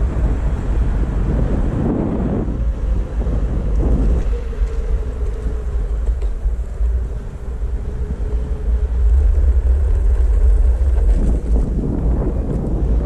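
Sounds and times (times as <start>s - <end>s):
rolling skateboard rumble: 0.0s - 13.0s
wind buffeting microphone: 0.0s - 13.0s.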